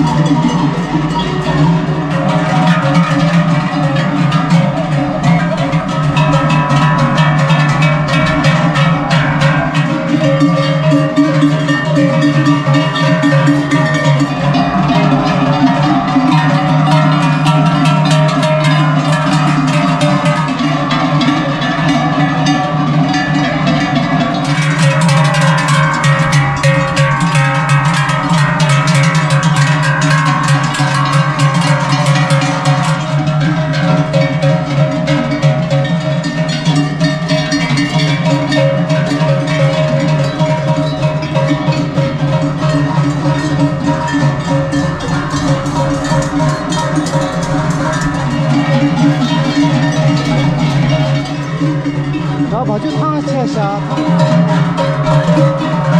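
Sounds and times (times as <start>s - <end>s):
cattle bells clanging: 0.0s - 55.9s.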